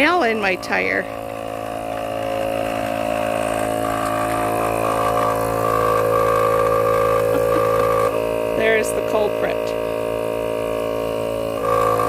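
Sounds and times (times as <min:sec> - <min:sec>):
air compressor motor hum: 0:00.0 - 0:12.0.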